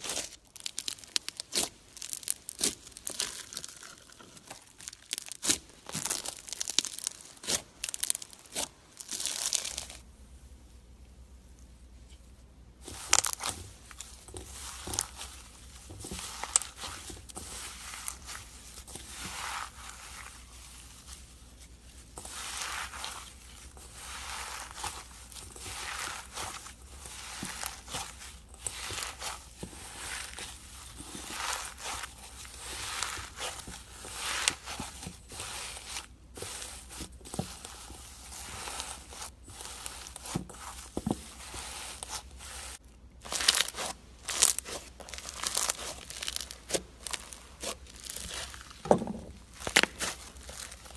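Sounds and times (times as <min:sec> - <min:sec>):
crunchy slime squeezed and crackling: 0:00.0 - 0:10.0, 0:12.8 - 0:50.9.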